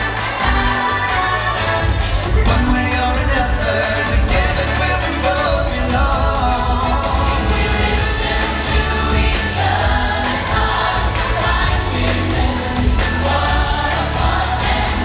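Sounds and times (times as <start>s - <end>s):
group of voices singing: 0.0s - 15.0s
pop music bass line: 0.0s - 15.0s.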